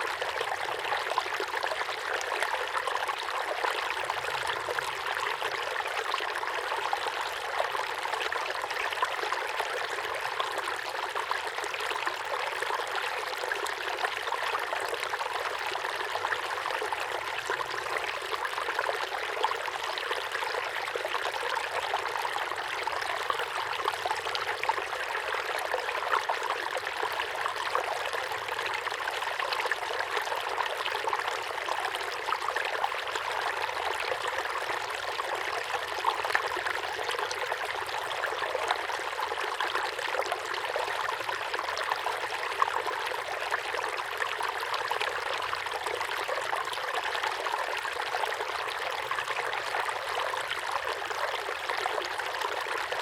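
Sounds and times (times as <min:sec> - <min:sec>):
waterfall pouring into pond: 0:00.0 - 0:53.0.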